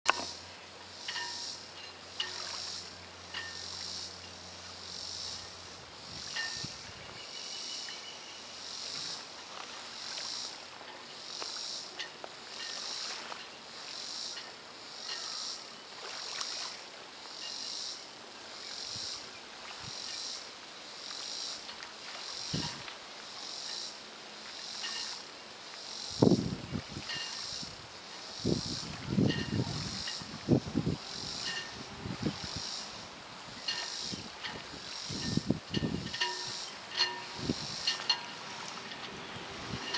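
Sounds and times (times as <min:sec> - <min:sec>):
insects buzzing: 0:00.1 - 0:39.9.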